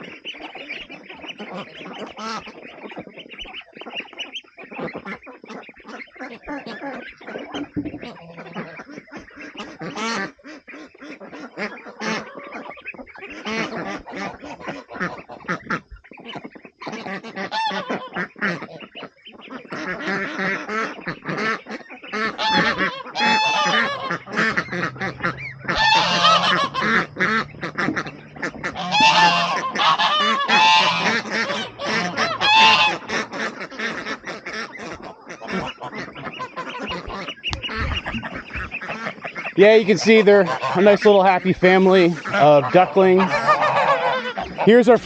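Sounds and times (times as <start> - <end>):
ducks quacking: 0.0 - 45.0
geese honking: 0.0 - 45.0.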